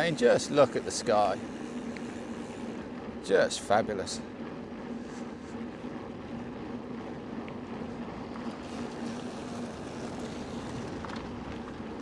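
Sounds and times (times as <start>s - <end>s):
bicycle tyre noise: 0.0s - 3.0s, 4.5s - 12.0s
steady low hum: 0.0s - 12.0s.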